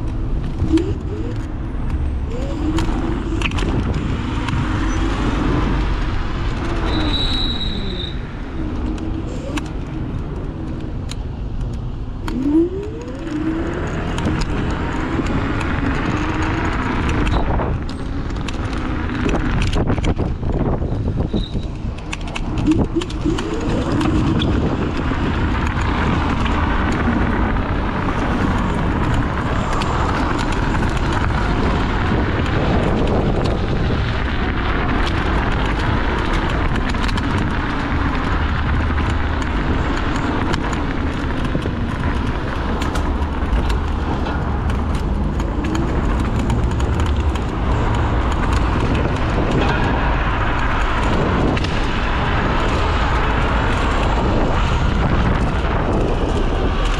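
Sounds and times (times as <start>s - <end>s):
car traffic: 0.0s - 56.9s
scooter tyre noise: 0.0s - 56.9s
wind rushing over microphone: 0.0s - 56.9s.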